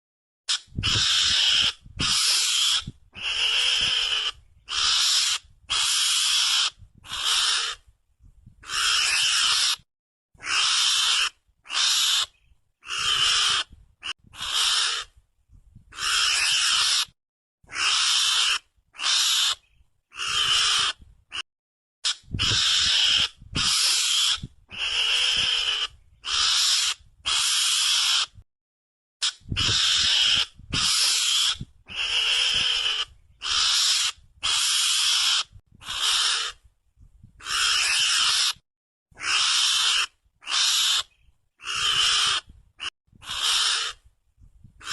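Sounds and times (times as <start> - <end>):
short harsh animal calls: 0.5 - 7.8, 8.6 - 9.8, 10.4 - 15.1, 15.9 - 21.4, 22.0 - 28.4, 29.2 - 36.6, 37.4 - 38.6, 39.2 - 44.0.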